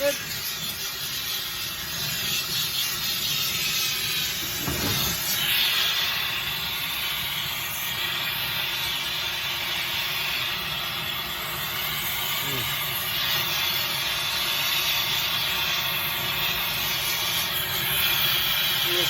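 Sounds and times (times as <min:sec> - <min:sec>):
torch flame hissing: 0:00.0 - 0:19.0.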